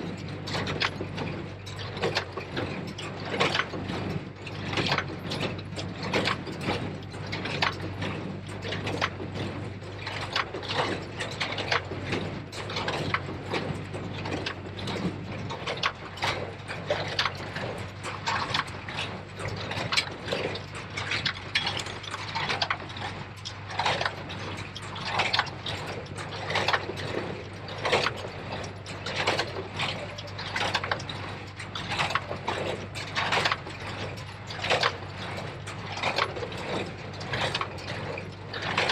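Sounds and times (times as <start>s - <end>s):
baler mechanism clanking: 0.0s - 38.9s
tractor engine humming: 0.0s - 38.9s.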